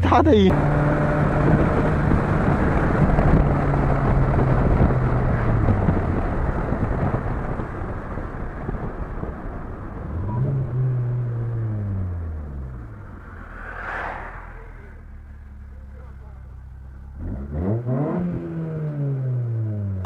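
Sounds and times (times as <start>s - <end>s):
car engine passing: 0.5s - 19.9s
car exhaust passing by: 0.5s - 20.0s.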